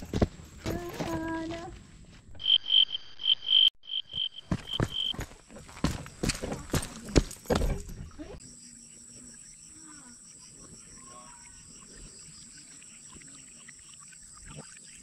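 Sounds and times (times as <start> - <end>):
insects buzzing and trilling: 2.4 - 15.0.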